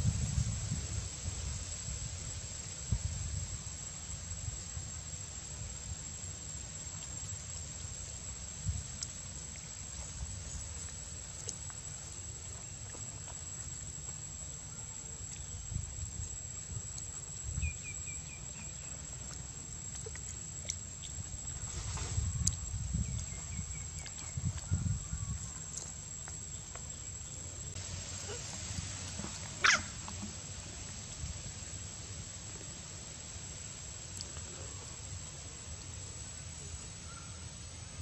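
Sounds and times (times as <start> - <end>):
high-pitched insect trill: 0.0 - 32.4.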